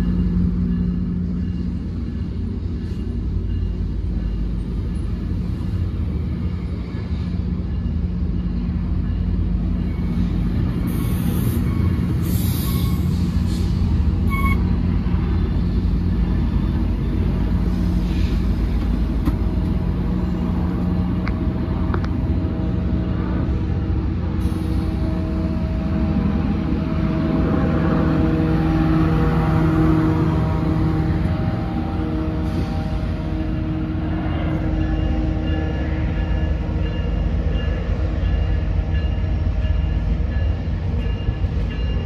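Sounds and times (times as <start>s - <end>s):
diesel locomotive idling: 0.0s - 42.0s.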